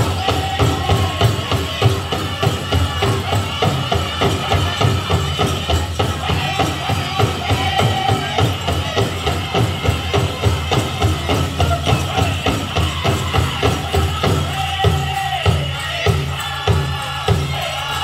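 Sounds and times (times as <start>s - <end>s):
bells jingling: 0.0s - 18.0s
group singing: 0.0s - 18.0s
steady drum beat: 0.0s - 18.0s.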